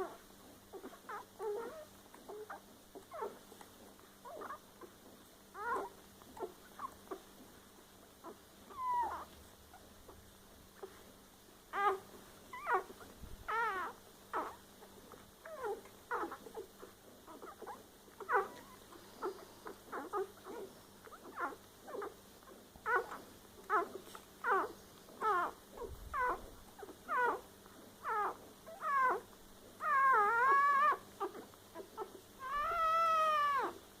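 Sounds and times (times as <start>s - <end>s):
puppies squeaking and whimpering: 0.0s - 11.1s, 11.7s - 33.8s.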